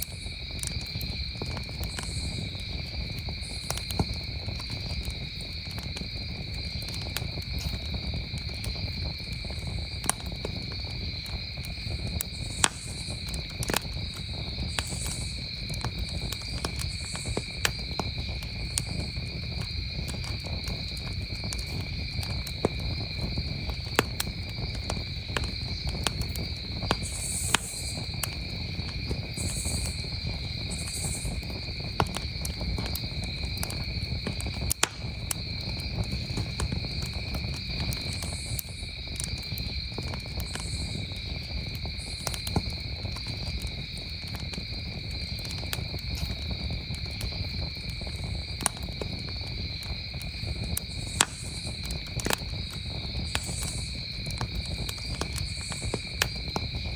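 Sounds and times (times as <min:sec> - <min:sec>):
campfire crackling and popping: 0:00.0 - 0:56.9
crickets chirping: 0:00.0 - 0:56.9.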